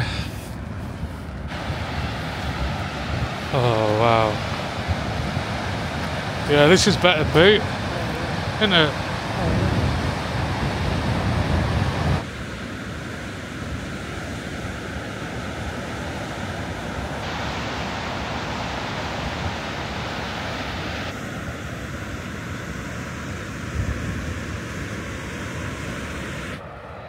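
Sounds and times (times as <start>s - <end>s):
waterfall roaring: 0.0s - 26.6s
wind buffeting microphone: 0.0s - 27.0s.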